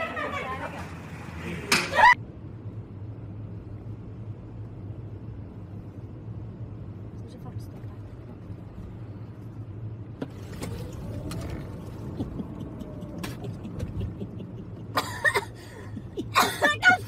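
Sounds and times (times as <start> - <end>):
road and tyre hum in car: 0.0 - 17.0.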